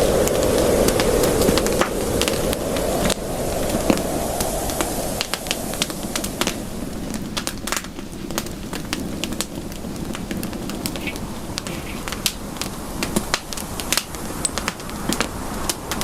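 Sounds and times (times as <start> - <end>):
campfire pops and snaps: 0.0 - 16.0
low rush of burning wood: 0.0 - 16.0.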